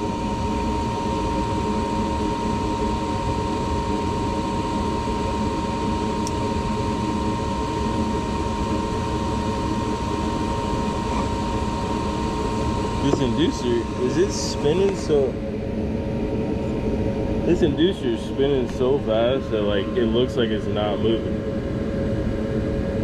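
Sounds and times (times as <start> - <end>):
furnace motor whirring: 0.0 - 22.8.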